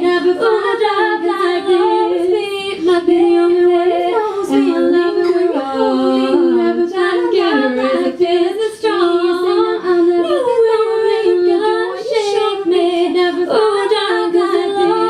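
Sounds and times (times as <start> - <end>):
women singing in harmony: 0.0 - 15.0.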